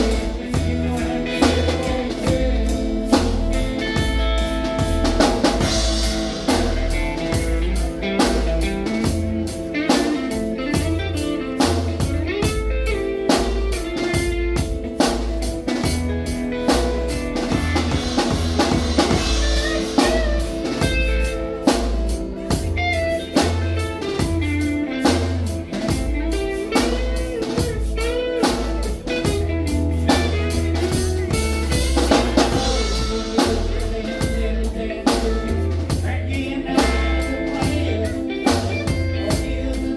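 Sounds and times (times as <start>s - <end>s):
band playing bluesy rock: 0.0s - 39.9s.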